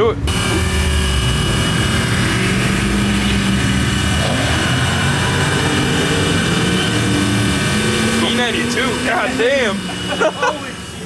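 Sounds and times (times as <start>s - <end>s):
engine idling with low hum: 0.0s - 11.0s
multi-tone whine: 0.0s - 11.0s.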